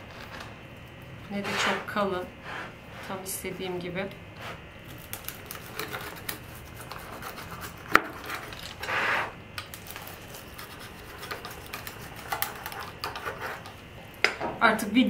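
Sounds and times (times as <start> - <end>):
pizza cutter rolling and scraping: 1.2 - 13.8.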